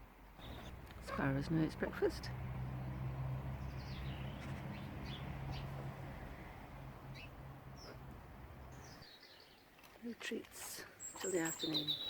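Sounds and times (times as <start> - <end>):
sparrows chirping: 0.4 - 12.0.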